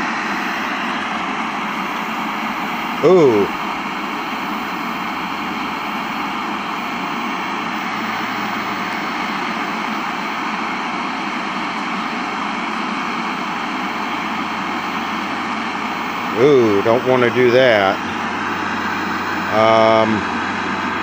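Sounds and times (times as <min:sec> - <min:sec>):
tv speaker static hiss: 0:00.0 - 0:21.0.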